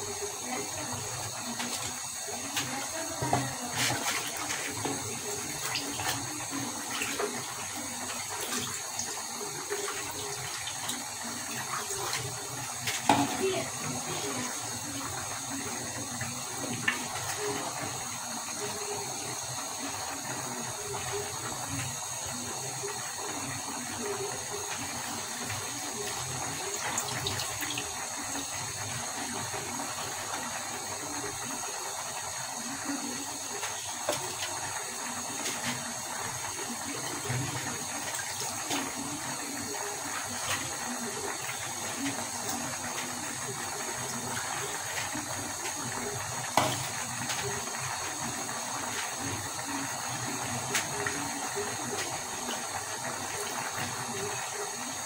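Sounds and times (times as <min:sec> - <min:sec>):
food sizzling: 0:00.0 - 0:55.0.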